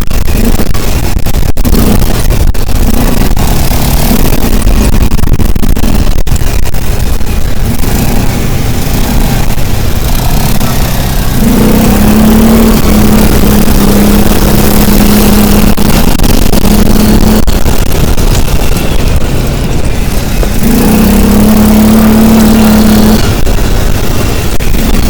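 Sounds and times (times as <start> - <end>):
steady hum: 0.0 - 25.0
vehicle engine rumbling: 0.0 - 25.0.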